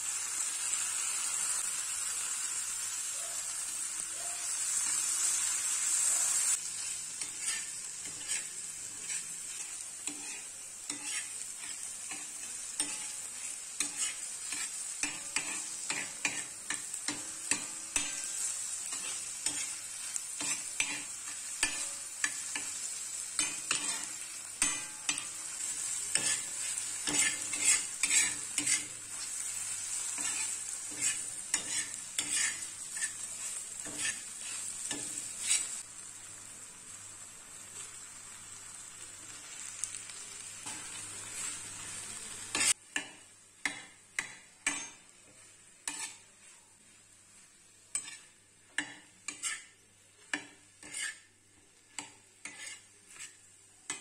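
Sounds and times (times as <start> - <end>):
onions and tomatoes sizzling in oil: 0.0 - 54.0
metal spatula scraping a pan: 4.7 - 35.8, 40.6 - 46.7, 47.9 - 54.0.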